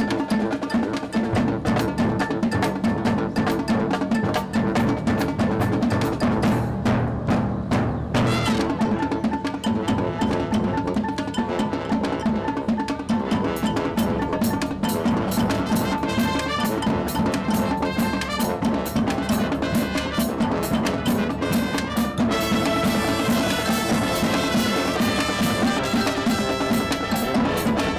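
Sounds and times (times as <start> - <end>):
marching band playing: 0.0 - 27.9
snare and bass drums: 0.0 - 27.9.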